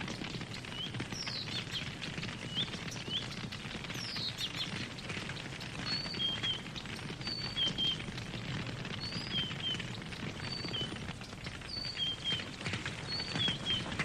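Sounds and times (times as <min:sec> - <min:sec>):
campfire crackling and popping: 0:00.0 - 0:14.0
songbirds calling: 0:00.1 - 0:14.0.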